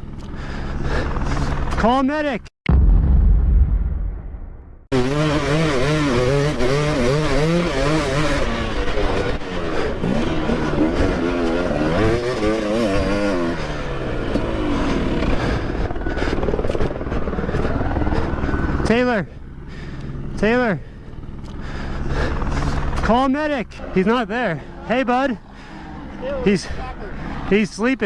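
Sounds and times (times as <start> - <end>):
dirt bike engine revving: 4.9 - 27.6.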